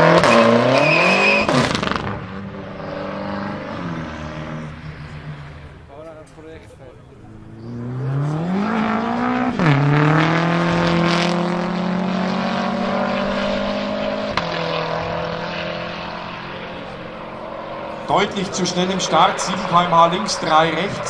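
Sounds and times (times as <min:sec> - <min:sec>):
car engine revving hard: 0:00.0 - 0:05.8, 0:07.3 - 0:21.0.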